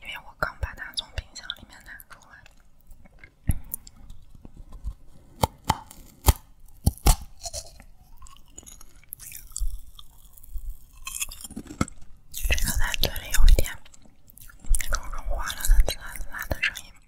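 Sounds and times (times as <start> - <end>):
crunchy candy chewing: 2.4 - 16.9.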